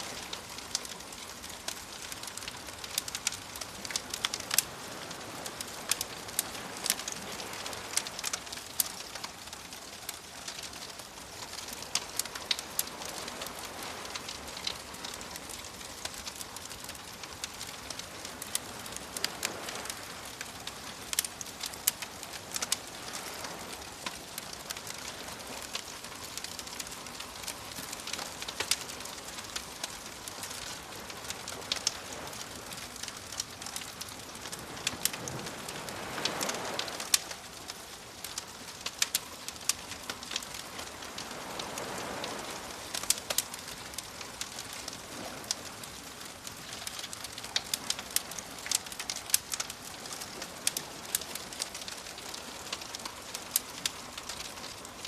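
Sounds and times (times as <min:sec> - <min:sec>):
soft waves: 0:00.0 - 0:55.0
wood fire crackling: 0:00.0 - 0:55.0.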